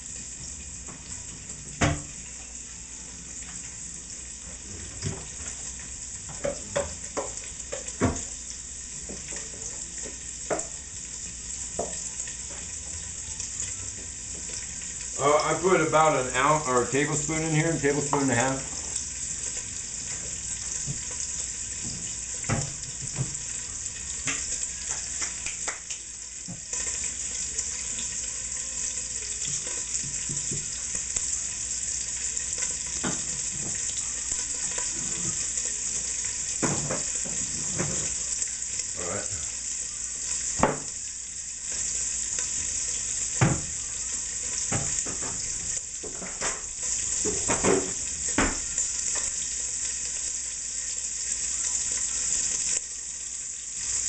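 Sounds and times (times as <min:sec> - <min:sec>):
bacon sizzling: 0:00.0 - 0:54.0.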